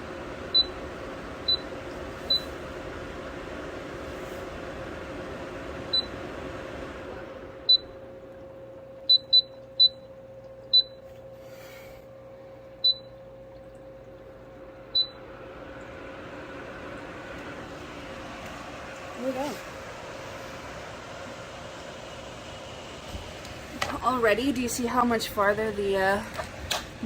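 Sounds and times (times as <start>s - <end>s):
cooler fan humming: 0.0s - 27.0s.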